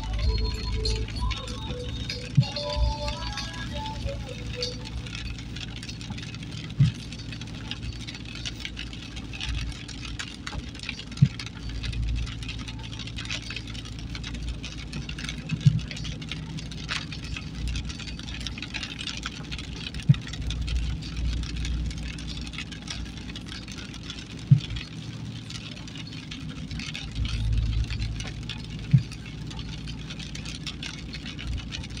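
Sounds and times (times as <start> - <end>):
road rumble: 0.0 - 32.0
vehicle engine running: 0.0 - 32.0.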